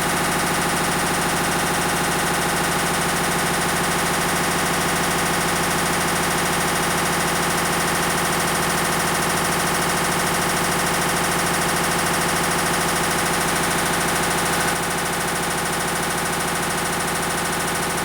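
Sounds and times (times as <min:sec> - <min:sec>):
washing machine spinning: 0:00.0 - 0:18.0.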